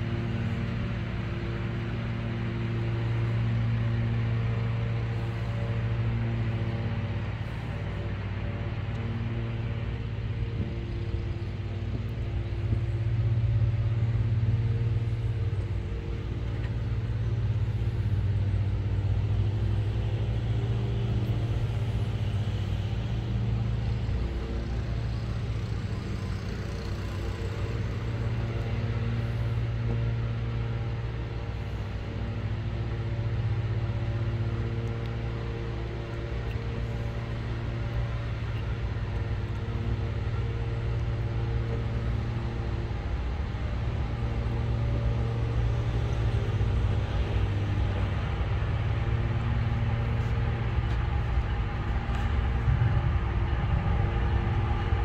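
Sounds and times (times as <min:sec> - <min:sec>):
distant diesel locomotive hum: 0:00.0 - 0:55.0.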